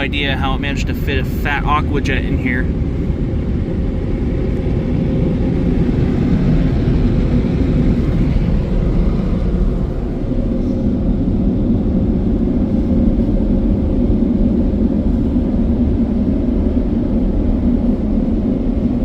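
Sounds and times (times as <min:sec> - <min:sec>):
blower dryers rushing air: 0:00.0 - 0:19.0
faint steady hum: 0:00.0 - 0:19.0.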